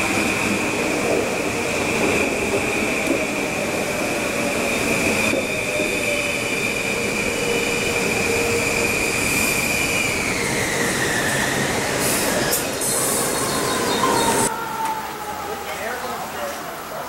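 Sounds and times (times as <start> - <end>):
high train whine: 0.0 - 17.0.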